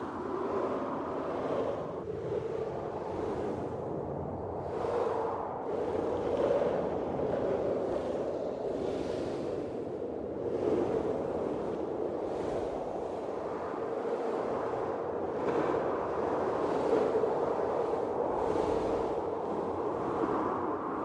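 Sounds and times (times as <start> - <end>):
blizzard wind gusting: 0.0 - 21.0.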